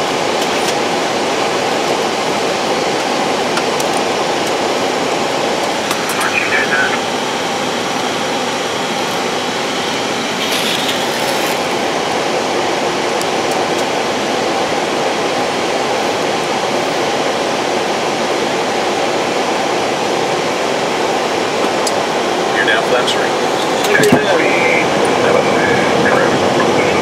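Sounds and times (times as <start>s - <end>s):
aircraft engine noise: 0.0s - 27.0s.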